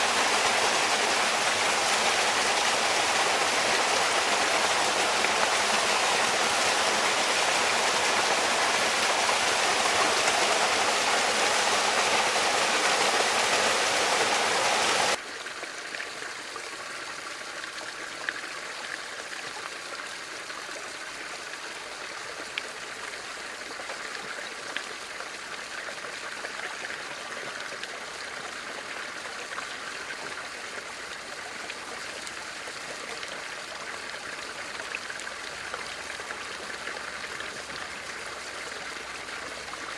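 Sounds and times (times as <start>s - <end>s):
water running in a fountain: 0.0s - 39.9s.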